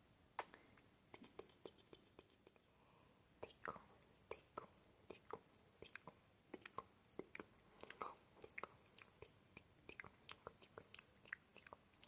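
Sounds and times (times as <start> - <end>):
lip smacks: 0.4 - 2.7, 3.4 - 12.0
tongue clicks: 0.4 - 2.7, 3.4 - 12.0.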